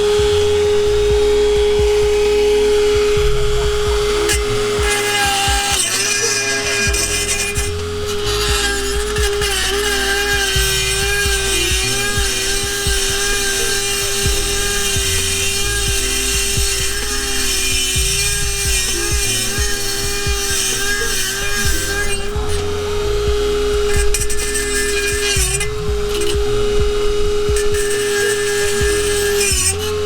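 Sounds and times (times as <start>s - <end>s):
grinding scrape of metal: 0.0s - 30.0s
rotary tool motor whining: 0.0s - 30.0s.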